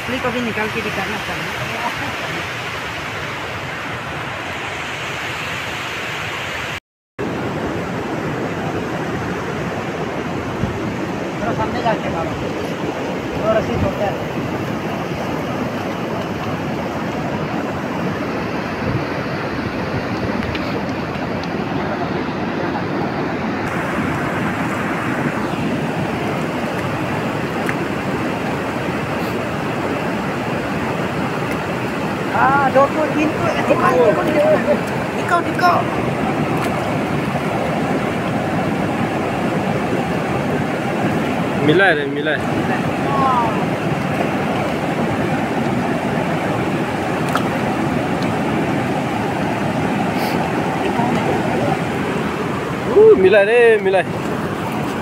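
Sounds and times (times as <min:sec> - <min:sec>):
river rushing over stones: 0:00.0 - 0:55.0.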